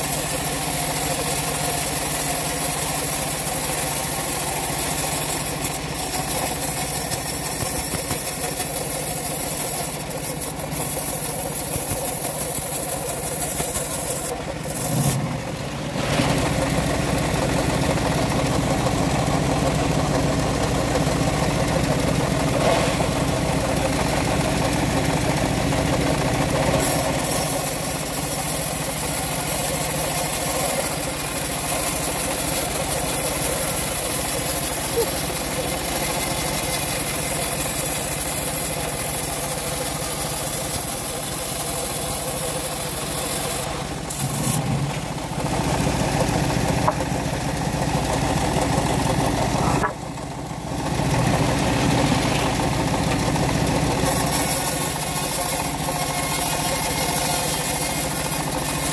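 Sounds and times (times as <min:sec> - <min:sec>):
band saw cutting log: 0:00.0 - 0:18.5, 0:21.5 - 0:48.3, 0:48.9 - 0:50.1, 0:51.0 - 0:58.9
sawmill engine running: 0:00.0 - 0:58.9.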